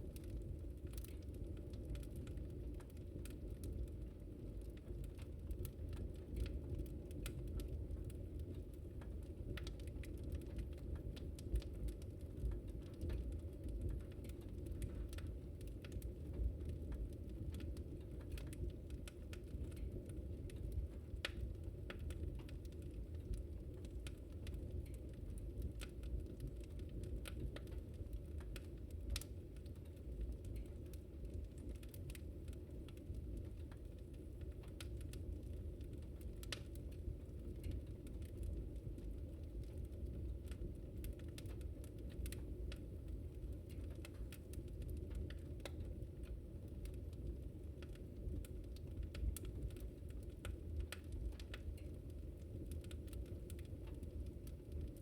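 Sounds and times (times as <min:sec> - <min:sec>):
burning wood crackling: 0:00.0 - 0:55.0
rumble of campfire flames: 0:00.0 - 0:55.0.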